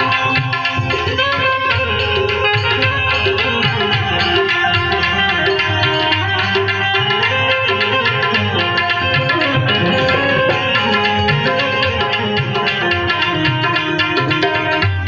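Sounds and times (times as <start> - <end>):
melody line: 0.0 - 14.8
tabla drumming: 0.0 - 15.0.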